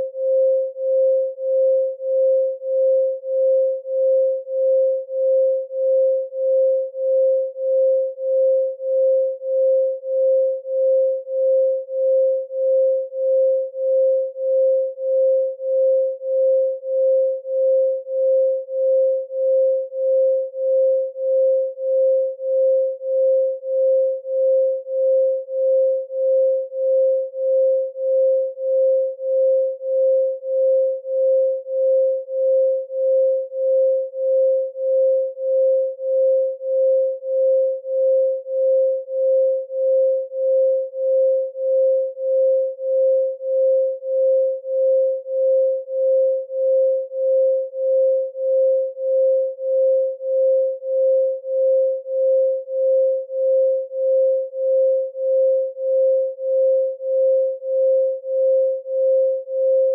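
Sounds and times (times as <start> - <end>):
pulsing sine tone: 0.0 - 59.9.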